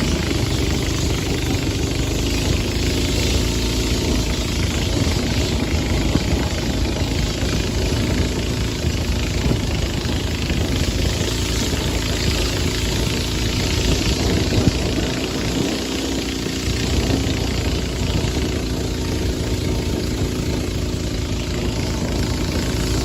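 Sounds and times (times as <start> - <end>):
boat engine running: 0.0 - 23.0
hiss of wind and water: 0.0 - 23.0.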